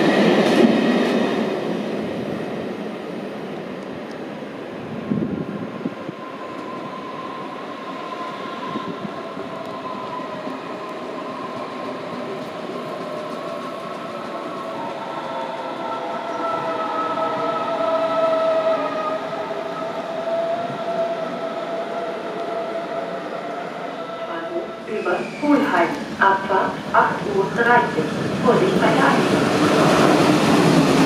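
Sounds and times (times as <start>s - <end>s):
train rail noise: 0.0s - 31.0s.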